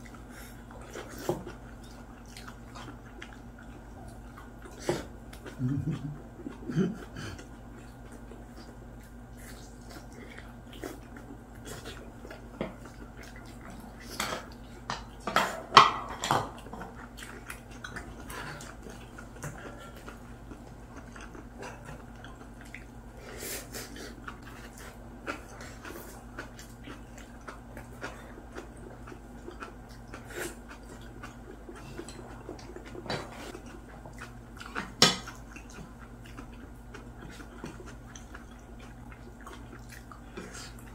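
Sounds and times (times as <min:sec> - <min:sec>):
chewing and biting meat: 0:00.0 - 0:15.2, 0:16.5 - 0:40.9.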